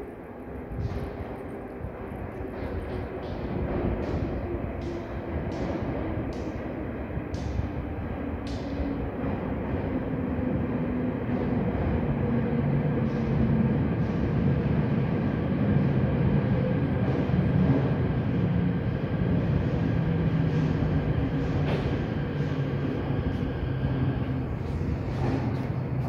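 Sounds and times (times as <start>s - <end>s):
electric train rumble: 0.0s - 26.0s.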